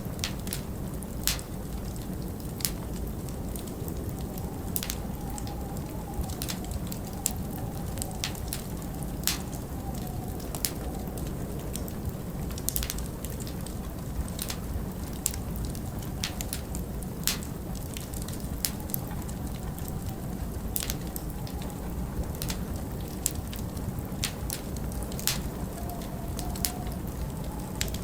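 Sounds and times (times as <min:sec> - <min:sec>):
low wind rumble: 0:00.0 - 0:28.0
wind whistling: 0:00.0 - 0:28.0
wood fire crackling and popping: 0:00.0 - 0:28.0.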